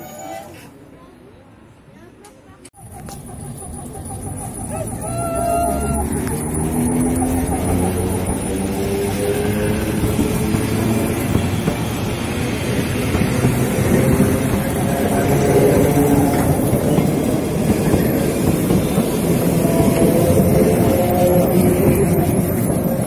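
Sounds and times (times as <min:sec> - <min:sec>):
train wheels rumbling on rails: 0:02.8 - 0:23.0.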